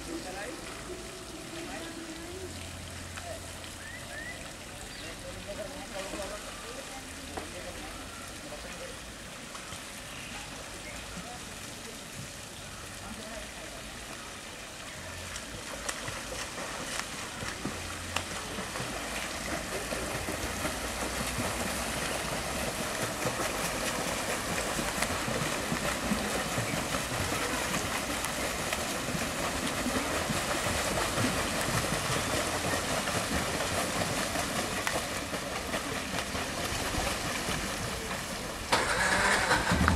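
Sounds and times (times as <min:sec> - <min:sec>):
pool water splashing: 0:00.0 - 0:39.9.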